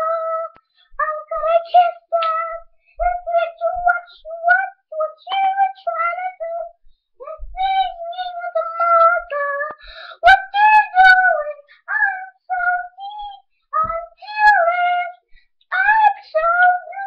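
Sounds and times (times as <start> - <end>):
child singing: 0.0 - 17.0.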